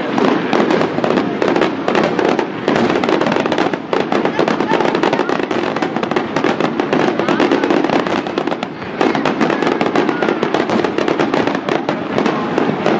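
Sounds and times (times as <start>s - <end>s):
firework bangs and crackling: 0.0s - 12.9s.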